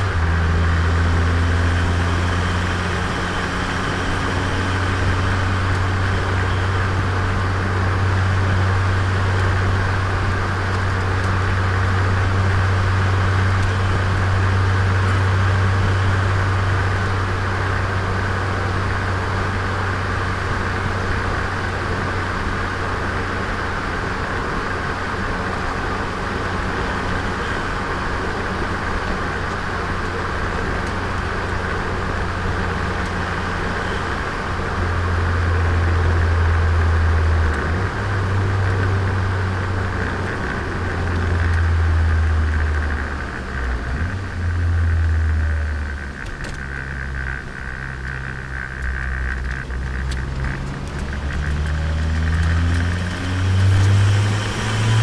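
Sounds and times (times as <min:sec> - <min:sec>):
car engine cruising: 0:00.0 - 0:55.0
tyre and road noise: 0:00.0 - 0:55.0.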